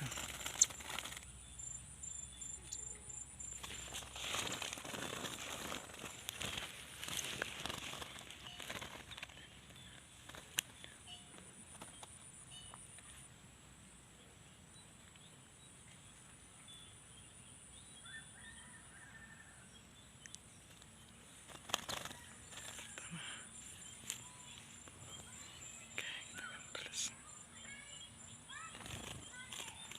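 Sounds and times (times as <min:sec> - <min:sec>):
faint bird chirps: 0:00.0 - 0:06.1, 0:07.6 - 0:13.4, 0:14.1 - 0:29.9.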